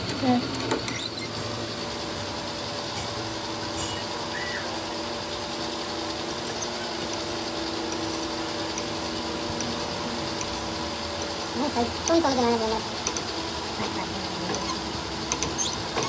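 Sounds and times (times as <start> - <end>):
constant hum: 0.0 - 16.0
power tool running: 0.0 - 16.0.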